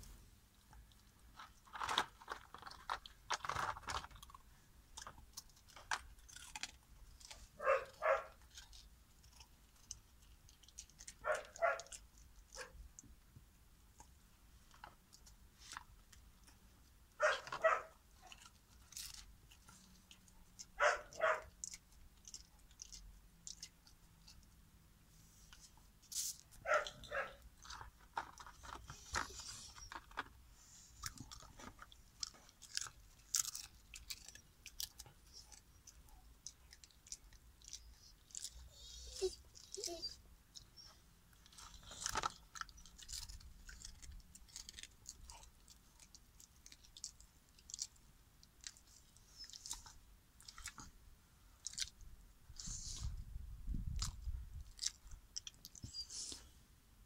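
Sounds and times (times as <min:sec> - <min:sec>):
dog crunching treats: 0:00.6 - 0:13.2, 0:13.9 - 0:24.8, 0:25.5 - 0:53.1, 0:53.7 - 0:56.4.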